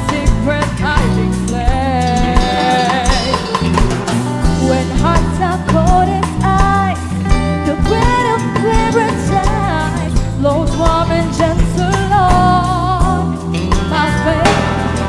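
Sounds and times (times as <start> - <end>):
band music with singing: 0.0 - 15.0.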